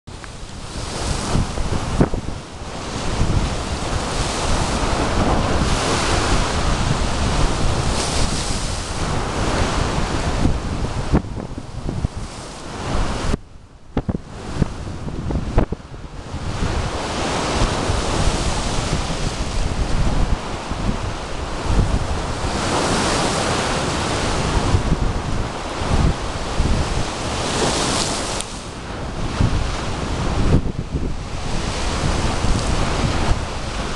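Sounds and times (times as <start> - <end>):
surf breaking on shore: 0.1 - 33.9
wind buffeting microphone: 0.1 - 33.9.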